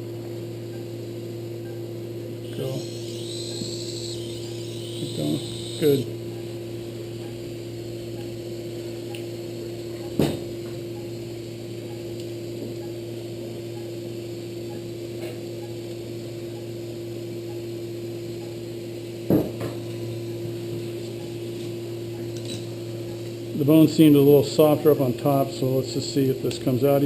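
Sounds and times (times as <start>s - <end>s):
equipment humming: 0.0s - 27.0s.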